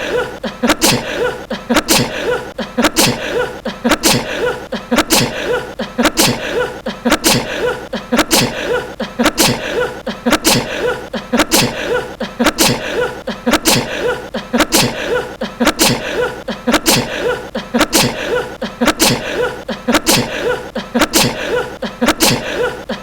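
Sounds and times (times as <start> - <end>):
young man sneezing: 0.0 - 23.0.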